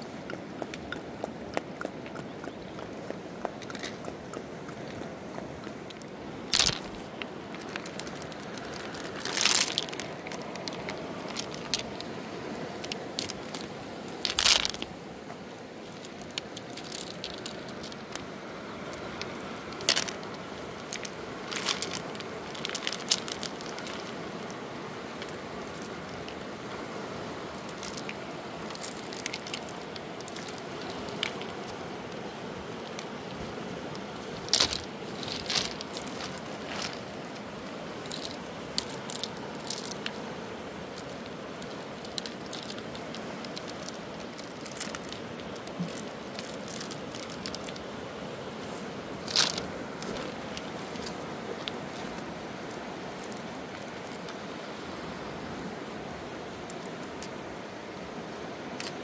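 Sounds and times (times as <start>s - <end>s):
river pebbles clacking: 0.0s - 59.0s
river water rushing: 0.0s - 59.0s.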